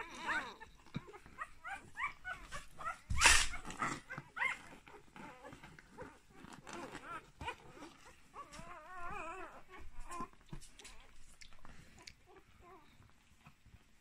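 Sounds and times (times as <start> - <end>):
puppies squeaking and whimpering: 0.0 - 13.6.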